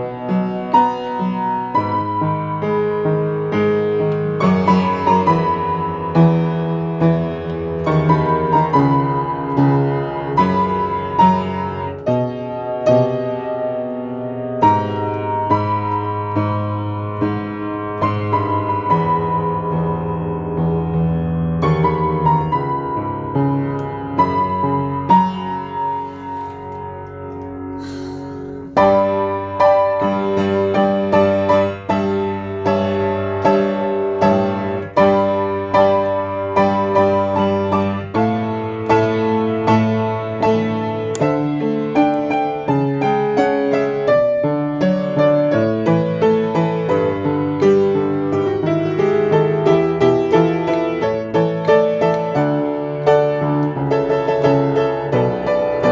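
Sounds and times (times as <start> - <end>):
slow gentle piano: 0.0 - 55.9.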